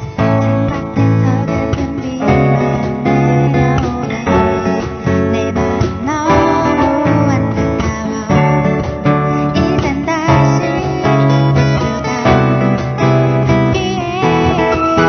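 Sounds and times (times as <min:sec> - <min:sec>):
band playing live: 0:00.0 - 0:15.0
strummed acoustic guitars: 0:00.0 - 0:15.0.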